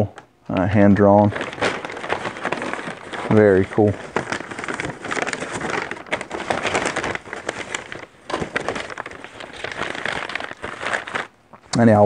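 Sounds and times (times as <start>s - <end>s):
paper bag crinkling: 1.1s - 12.0s.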